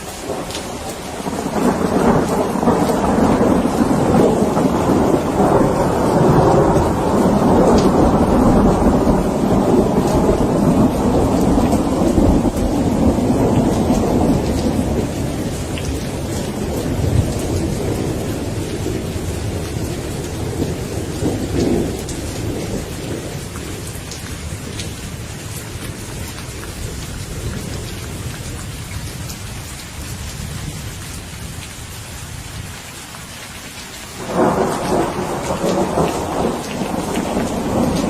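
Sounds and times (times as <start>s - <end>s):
rain pattering: 0.0s - 38.0s
rolling thunder: 0.2s - 29.3s, 34.2s - 38.0s.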